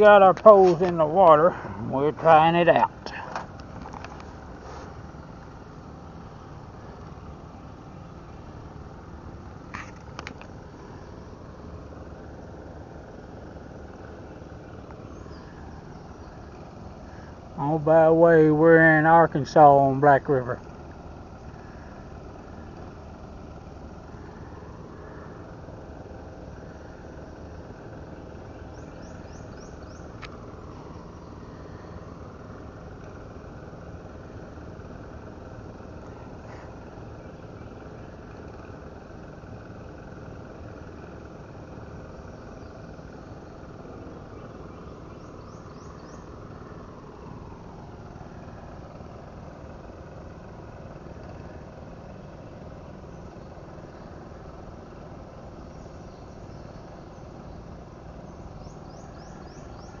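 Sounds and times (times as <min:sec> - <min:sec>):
distant engine running: 0:00.0 - 1:00.0.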